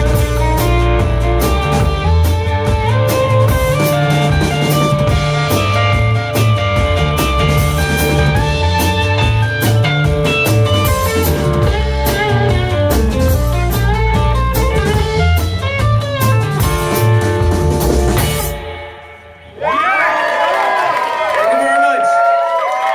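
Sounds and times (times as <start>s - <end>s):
electric guitar bending notes: 0.0s - 19.7s
live rock band playing: 0.0s - 20.0s.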